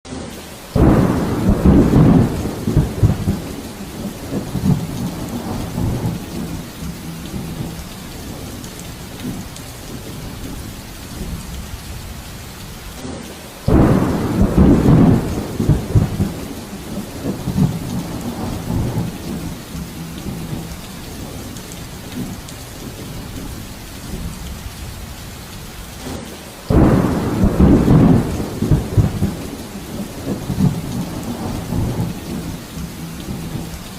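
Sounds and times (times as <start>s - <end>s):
rain hissing: 0.1s - 33.9s
thunder rumbling: 0.7s - 33.9s.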